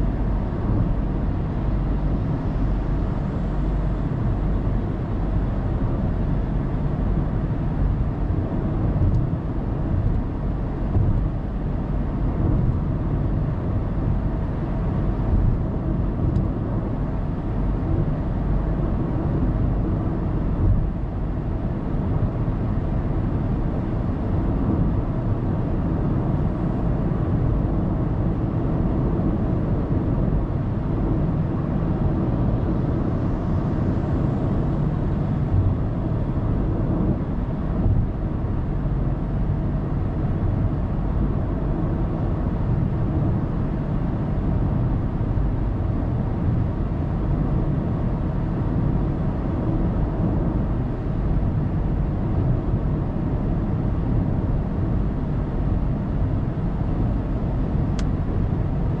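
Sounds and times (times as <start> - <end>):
car engine hum: 0.0 - 59.0
road and tyre noise: 0.0 - 59.0.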